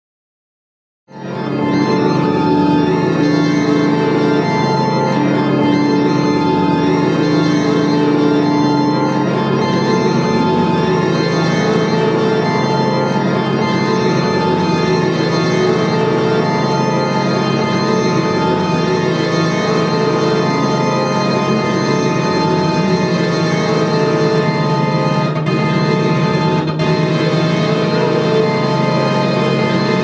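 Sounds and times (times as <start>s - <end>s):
organ-like sustained chords: 1.1s - 30.0s.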